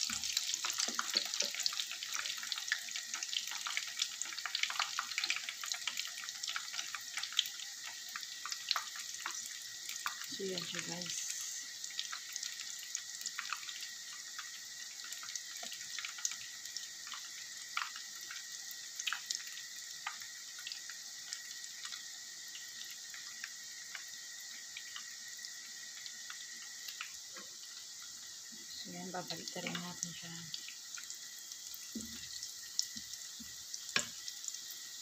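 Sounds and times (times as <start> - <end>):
food deep-frying in oil: 0.0 - 35.0.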